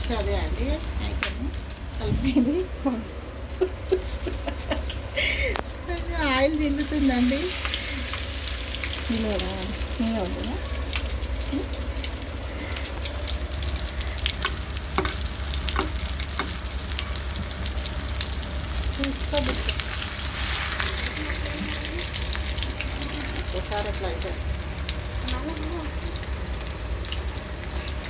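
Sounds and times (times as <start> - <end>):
chicken sizzling in hot oil: 0.0 - 28.0
low steady hum: 0.0 - 28.0
oil popping and crackling: 0.0 - 28.0.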